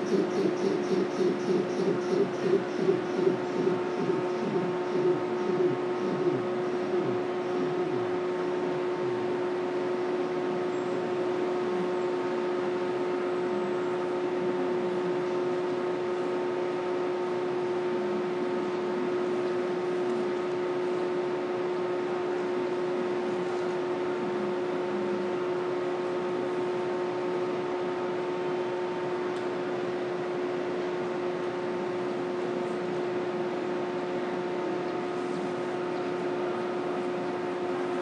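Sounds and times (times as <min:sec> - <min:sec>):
train electrical hum: 0:00.0 - 0:38.0.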